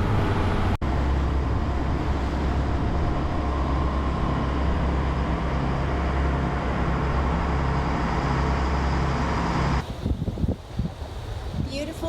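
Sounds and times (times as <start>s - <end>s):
boat engine running: 0.0s - 10.3s
wind and water rushing: 0.0s - 12.0s.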